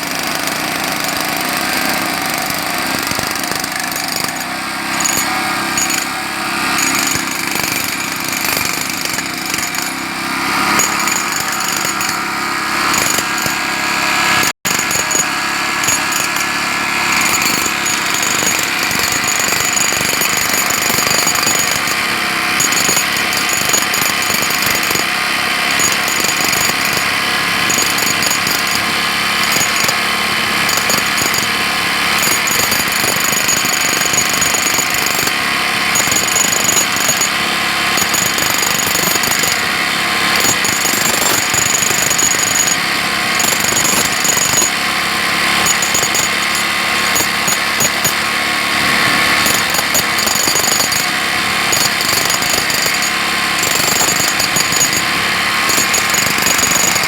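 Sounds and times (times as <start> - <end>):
jackhammer hammering: 0.0 - 57.0.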